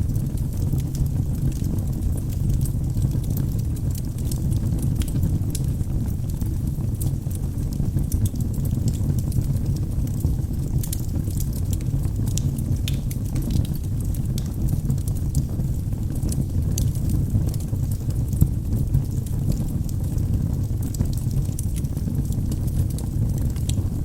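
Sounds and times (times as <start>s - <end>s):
fire crackling and popping: 0.0s - 24.0s
fire rumbling: 0.0s - 24.0s.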